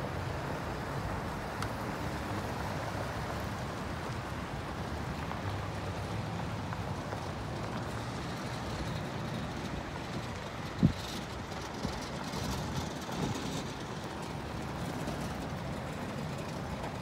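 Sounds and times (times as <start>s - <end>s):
truck engines humming: 0.0s - 17.0s
tyres on gravel: 0.3s - 17.0s.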